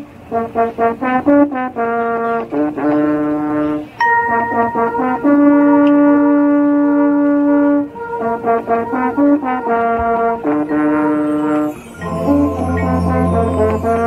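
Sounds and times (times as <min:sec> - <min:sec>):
marching band brass playing: 0:00.0 - 0:14.0.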